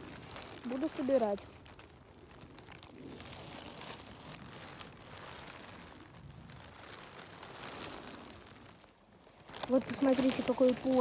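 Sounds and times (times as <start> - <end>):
rustling and crackling leaves: 0.0 - 11.0.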